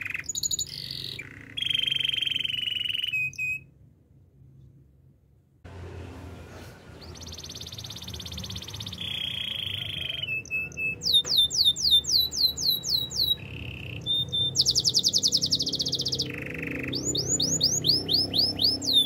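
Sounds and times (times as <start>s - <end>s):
canary singing trills: 0.0s - 3.7s, 6.9s - 19.0s.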